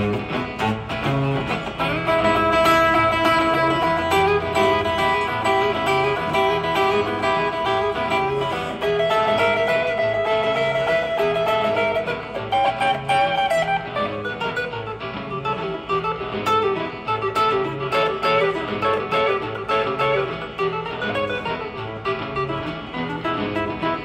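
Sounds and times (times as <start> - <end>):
guitar lines: 0.0 - 24.0.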